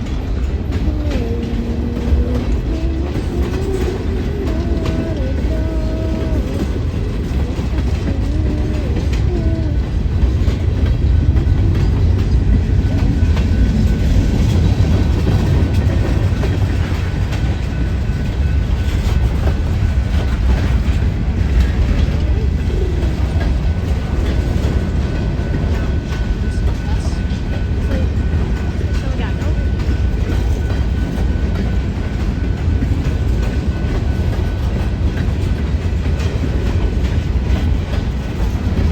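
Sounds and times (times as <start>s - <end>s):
rail joint clicks: 0.0s - 38.9s
train wheels rumbling on rail: 0.0s - 38.9s.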